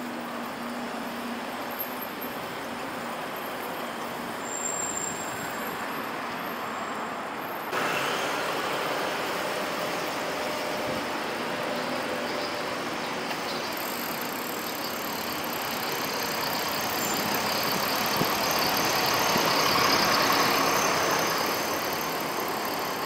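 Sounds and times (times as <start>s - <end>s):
cars and scooters passing: 0.0s - 23.0s.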